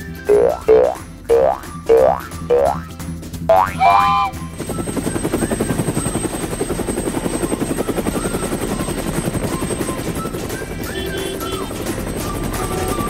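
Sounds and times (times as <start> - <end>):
cartoon helicopter rotor chop: 0.2 - 13.0.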